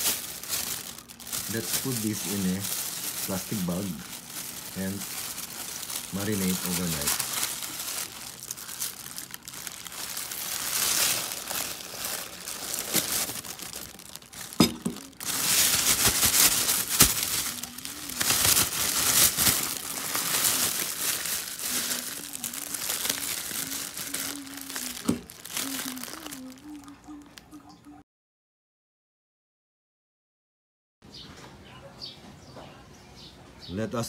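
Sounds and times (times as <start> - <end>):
plastic bag crinkling: 0.0 - 27.7.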